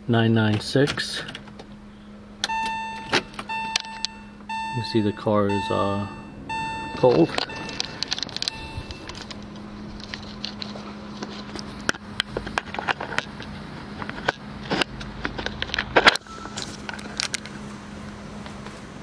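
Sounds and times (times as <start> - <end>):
car engine idling: 0.7 - 19.0.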